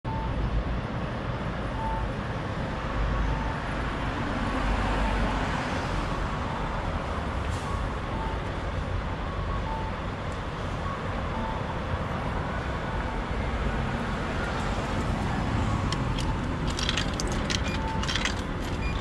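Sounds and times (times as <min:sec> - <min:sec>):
road traffic rumble: 0:00.1 - 0:19.0.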